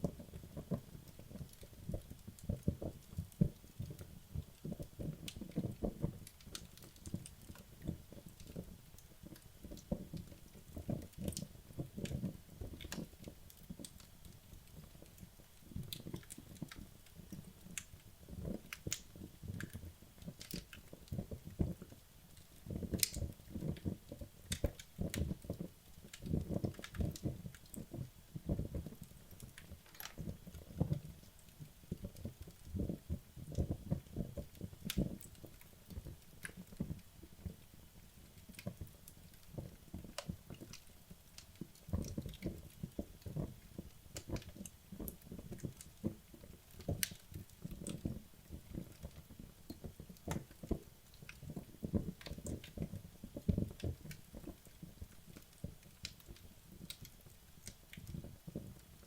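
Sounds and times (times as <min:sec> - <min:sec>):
wood logs crackling in fireplace: 0:00.0 - 0:59.0.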